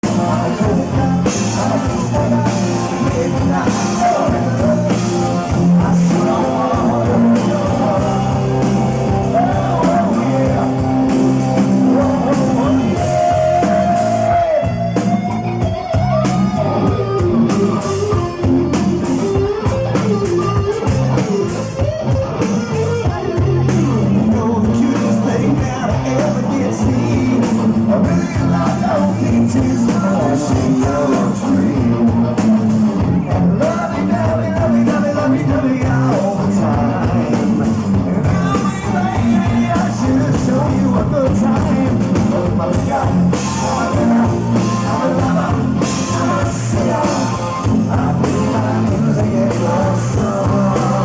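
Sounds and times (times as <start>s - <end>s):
person singing: 0.0s - 17.0s, 23.0s - 51.0s
electric guitar: 0.0s - 51.0s
steady drum beat: 0.0s - 51.0s.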